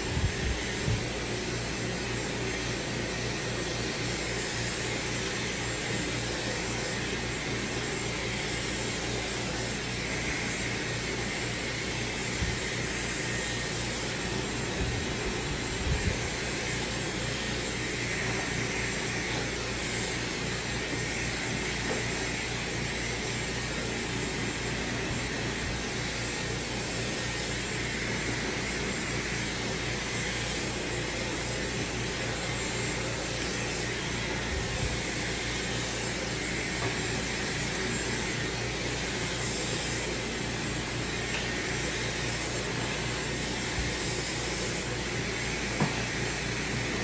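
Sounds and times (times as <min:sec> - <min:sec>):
hair dryer blowing: 0:00.0 - 0:47.0.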